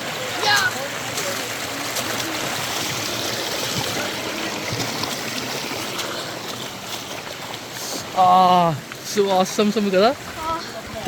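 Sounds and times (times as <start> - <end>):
light water splashes: 0.0 - 11.0
river flowing: 0.0 - 11.0.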